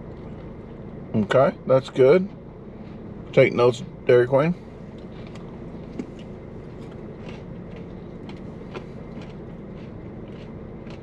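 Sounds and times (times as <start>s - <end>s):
low hum in car cabin: 0.0s - 11.0s.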